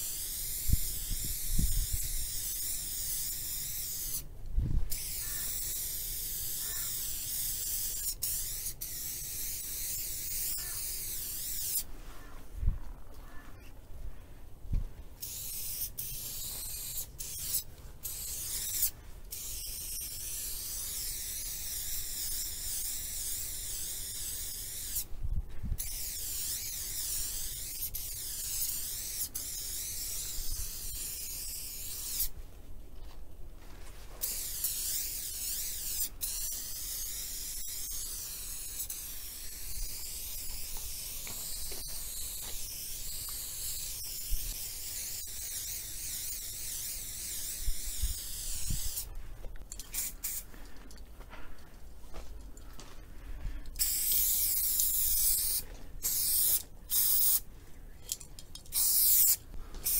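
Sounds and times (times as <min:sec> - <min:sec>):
aerosol spray can hissing: 0:00.0 - 0:04.3, 0:04.9 - 0:11.9, 0:15.2 - 0:25.1, 0:25.8 - 0:32.4, 0:34.2 - 0:49.1, 0:49.8 - 0:50.5, 0:53.7 - 0:57.5, 0:58.7 - 0:59.9.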